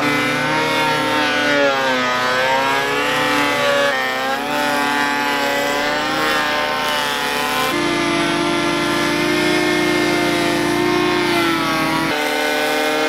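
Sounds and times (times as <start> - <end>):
electric hand planer cutting wood: 0.0 - 13.0.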